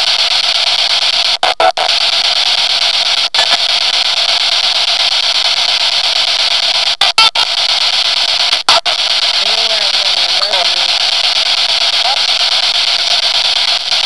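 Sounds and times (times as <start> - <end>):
radio static hiss: 0.0 - 14.0
snatch of radio sound: 0.0 - 14.0.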